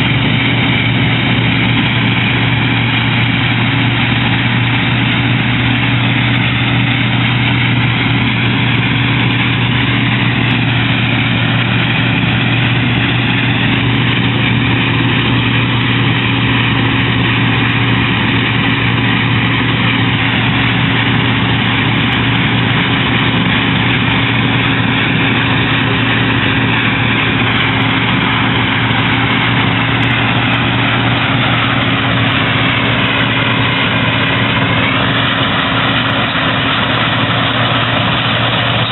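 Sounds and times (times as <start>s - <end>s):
combine harvester engine drone: 0.0s - 38.9s
wavering high whine: 0.0s - 38.9s.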